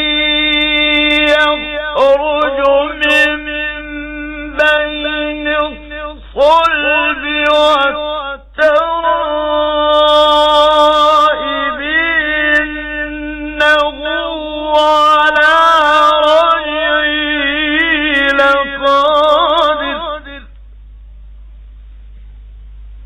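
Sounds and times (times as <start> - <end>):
man reciting melodically: 0.0 - 20.5.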